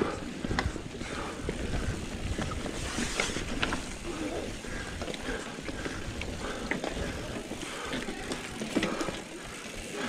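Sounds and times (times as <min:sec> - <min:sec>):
bike clicks and rattles: 0:00.0 - 0:10.0
bike tyres on dirt trail: 0:00.0 - 0:10.0.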